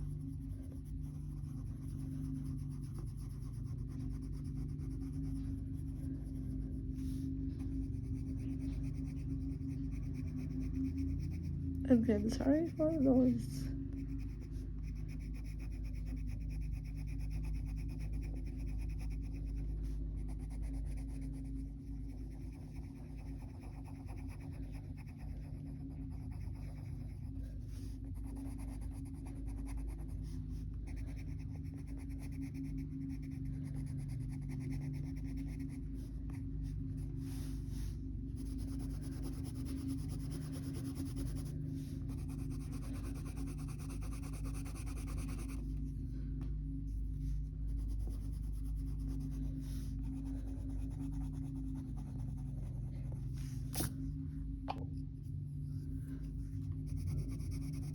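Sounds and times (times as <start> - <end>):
pencil scratching on paper: 0.0 - 45.9, 46.9 - 53.9, 55.6 - 57.9
steady low hum: 0.0 - 57.9.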